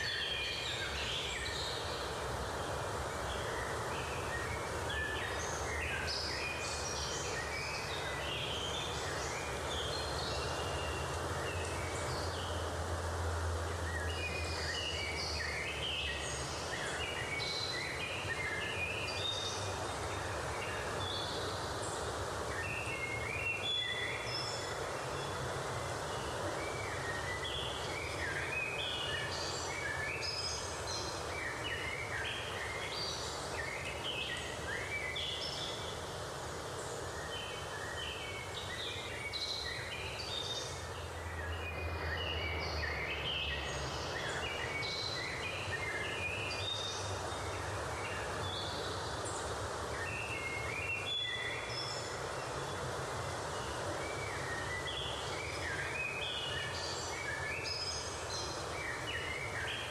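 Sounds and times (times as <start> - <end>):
outdoor ambience hiss: 0.0 - 59.9.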